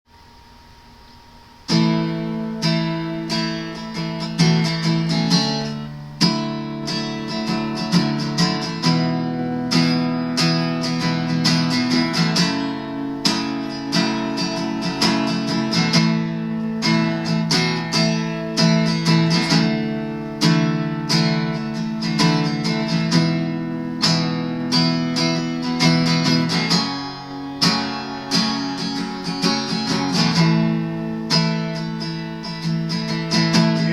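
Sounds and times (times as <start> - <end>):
acoustic guitar strumming: 1.0 - 33.9.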